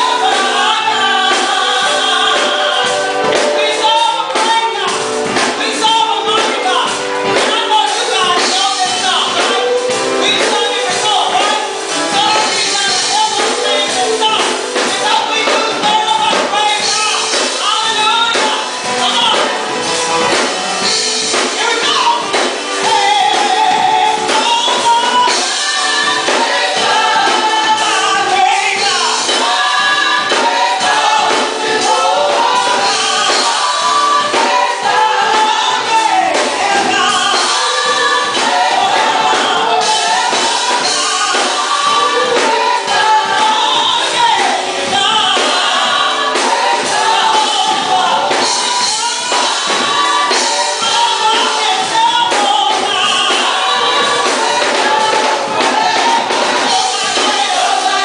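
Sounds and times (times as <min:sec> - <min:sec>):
woman lead singer: 0:00.0 - 0:20.4, 0:21.3 - 0:58.0
gospel choir singing: 0:00.0 - 0:58.0
percussion: 0:00.0 - 0:58.0.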